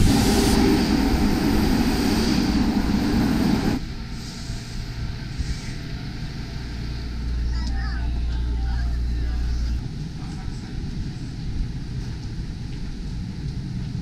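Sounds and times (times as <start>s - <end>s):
subway train rumbling on rails: 0.0s - 14.0s
steady background noise: 0.8s - 14.0s.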